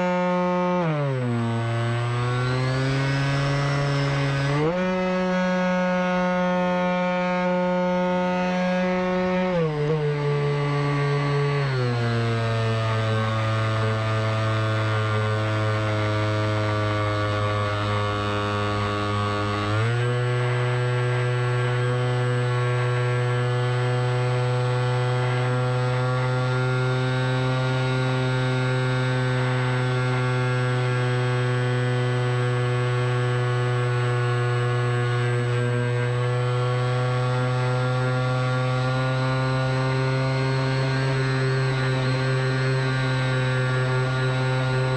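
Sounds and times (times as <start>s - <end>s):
drone propeller buzz: 0.0s - 44.9s.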